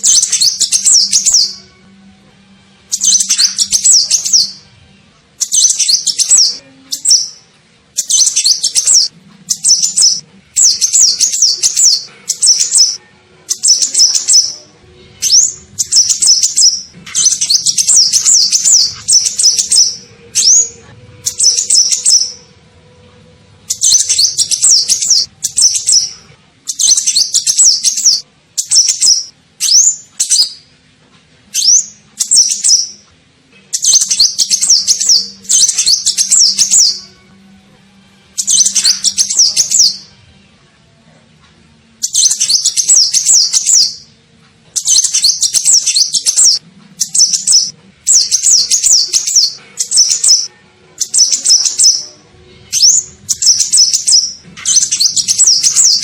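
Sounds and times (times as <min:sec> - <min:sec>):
bird chirping phrases: 0:00.0 - 0:02.0, 0:02.8 - 0:22.6, 0:23.6 - 0:30.7, 0:31.5 - 0:37.4, 0:38.3 - 0:40.3, 0:41.9 - 0:56.0.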